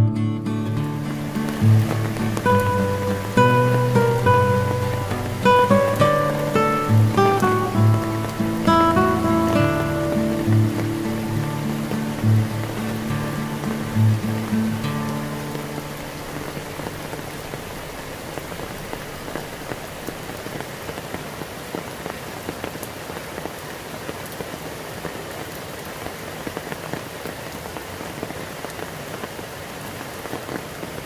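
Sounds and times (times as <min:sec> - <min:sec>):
steady rain falling: 0:00.0 - 0:31.0
raindrops ticking on surfaces: 0:00.3 - 0:31.0.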